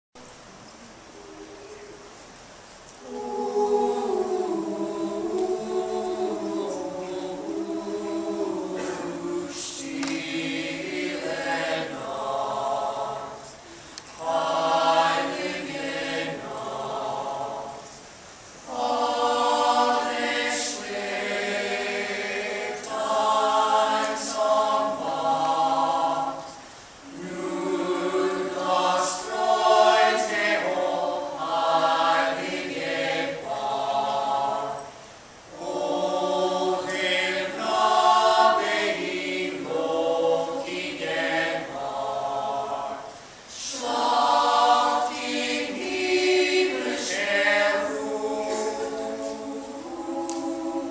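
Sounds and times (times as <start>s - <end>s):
choir singing: 3.0s - 50.9s.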